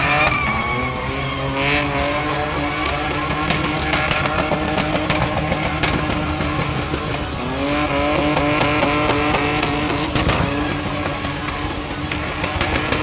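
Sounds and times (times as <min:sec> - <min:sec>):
car engine revving high: 0:00.0 - 0:13.0
tyre screech: 0:00.0 - 0:13.0.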